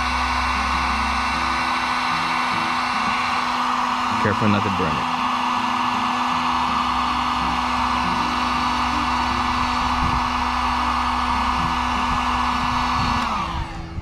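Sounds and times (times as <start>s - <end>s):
hot-air blower whine: 0.0s - 14.0s.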